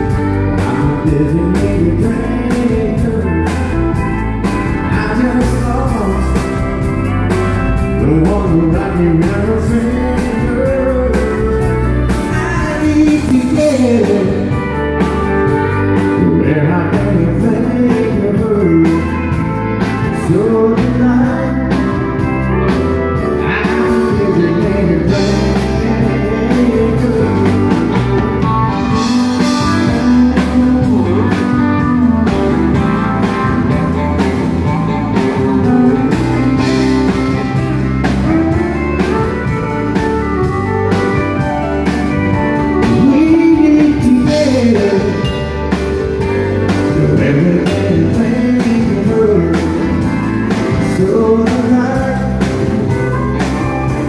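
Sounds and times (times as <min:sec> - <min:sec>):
country band playing: 0:00.0 - 0:54.0
drums: 0:00.0 - 0:54.0
pedal steel guitar: 0:00.0 - 0:54.0.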